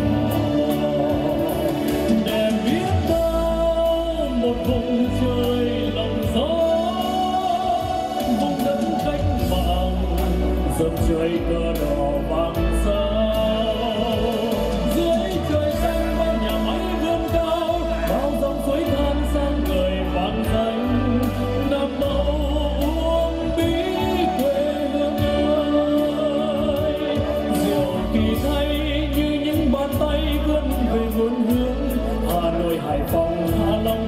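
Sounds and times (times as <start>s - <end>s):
backing track with bass and percussion: 0.0s - 34.0s
man singing into microphone: 0.0s - 34.0s.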